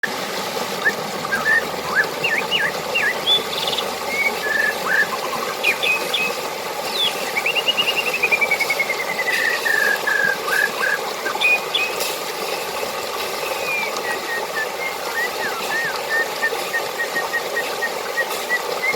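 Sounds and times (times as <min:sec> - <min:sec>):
flowing water: 0:00.0 - 0:18.9
birds chirping and whistling: 0:00.8 - 0:12.0, 0:13.4 - 0:18.9.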